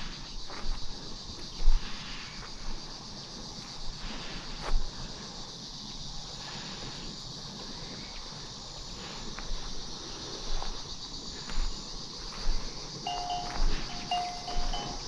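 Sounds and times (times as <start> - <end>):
high insect chorus: 0.0 - 15.0.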